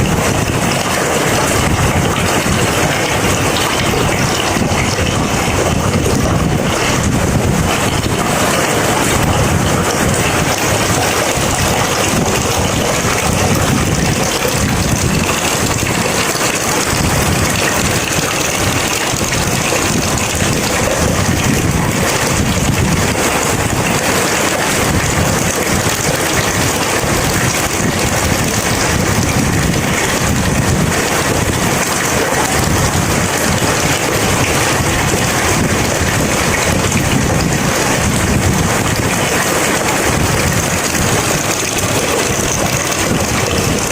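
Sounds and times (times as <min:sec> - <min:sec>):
heavy rain falling: 0:00.0 - 0:43.9
low thunder rumble: 0:00.0 - 0:43.9.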